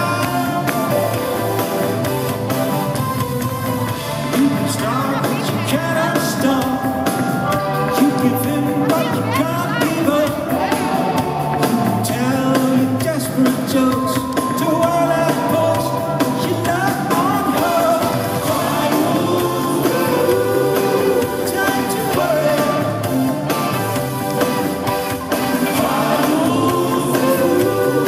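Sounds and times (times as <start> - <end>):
live band playing synth-pop: 0.0 - 28.0.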